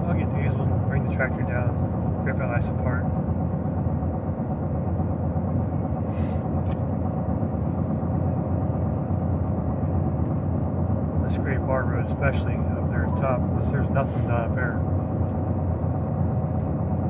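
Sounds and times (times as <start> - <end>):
truck engine and tyre rumble: 0.0 - 17.0.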